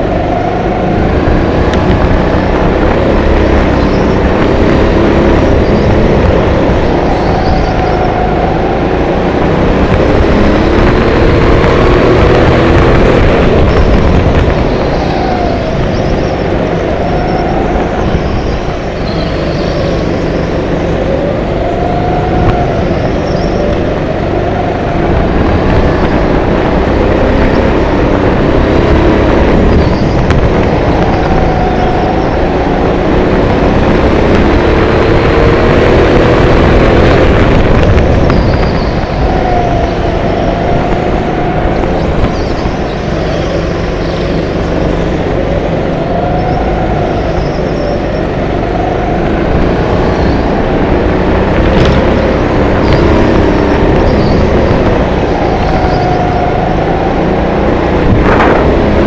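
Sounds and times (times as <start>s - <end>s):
go-kart engine running: 0.0s - 59.0s
wind rumble on camera: 0.0s - 59.0s.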